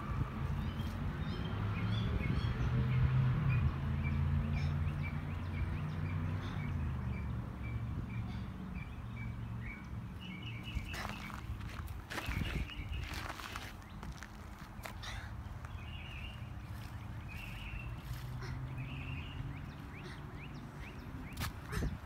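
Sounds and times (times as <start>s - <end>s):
birds chirping: 0.5s - 22.0s.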